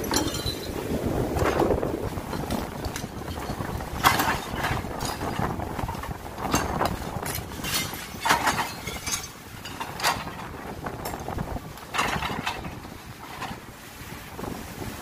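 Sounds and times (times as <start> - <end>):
bucket scraping and clanking rubble: 0.0 - 13.7.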